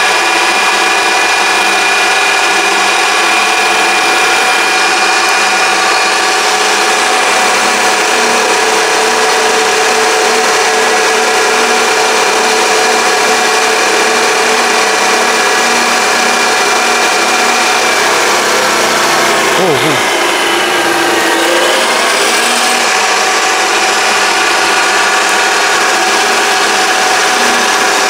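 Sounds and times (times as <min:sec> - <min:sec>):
lathe motor whine: 0:00.0 - 0:28.0.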